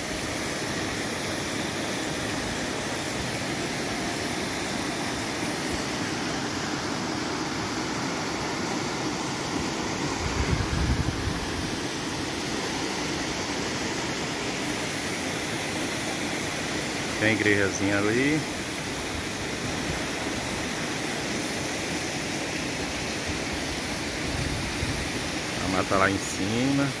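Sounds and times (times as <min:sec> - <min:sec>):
waterfall and river rushing: 0:00.0 - 0:27.0.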